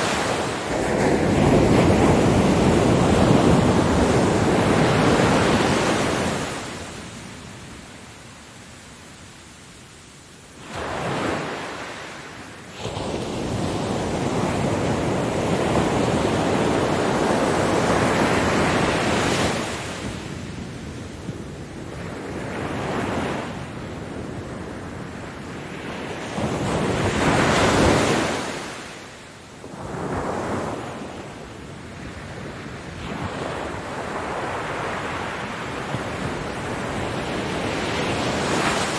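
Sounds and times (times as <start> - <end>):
ocean waves breaking: 0.0 - 7.7, 10.5 - 20.8, 25.0 - 38.9.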